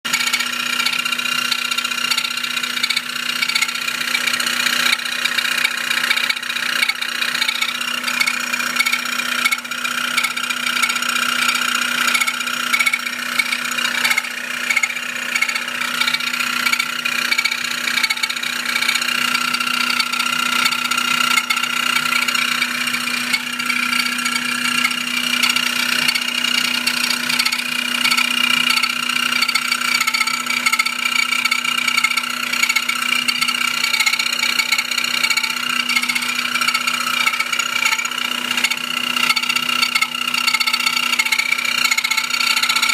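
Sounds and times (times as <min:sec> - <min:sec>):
car engine running: 0:00.1 - 0:42.9.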